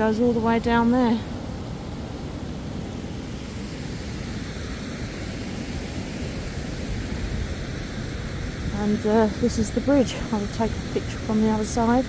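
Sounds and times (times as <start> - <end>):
river rushing through rapids: 0.0 - 12.0.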